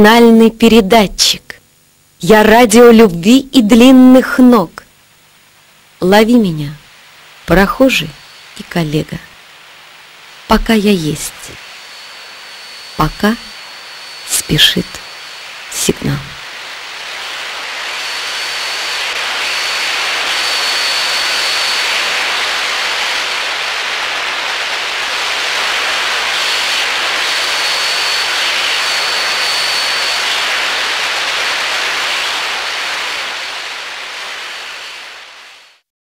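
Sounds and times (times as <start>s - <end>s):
steady rushing hiss: 0.0s - 35.8s.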